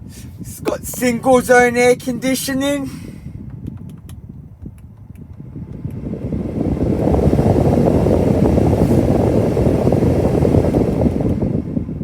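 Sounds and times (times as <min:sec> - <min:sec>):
car blower fan air rush: 0:00.0 - 0:12.0.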